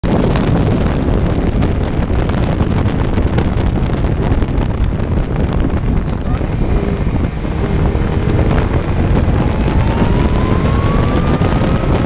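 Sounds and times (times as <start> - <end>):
vehicle running noise: 0.0 - 12.0
wind buffeting microphone: 0.0 - 12.0.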